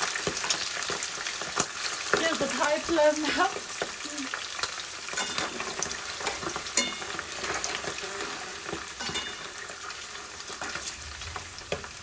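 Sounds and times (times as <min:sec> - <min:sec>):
oil crackling sizzle: 0:00.0 - 0:12.0.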